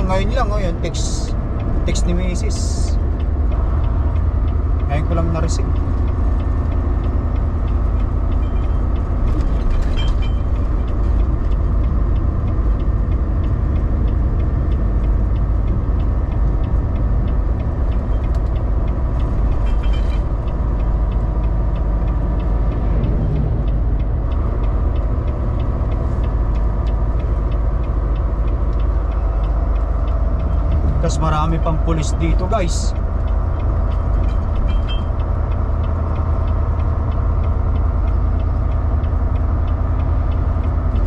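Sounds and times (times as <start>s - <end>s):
truck diesel engine running: 0.0s - 41.0s
tyre and road noise: 0.0s - 41.0s.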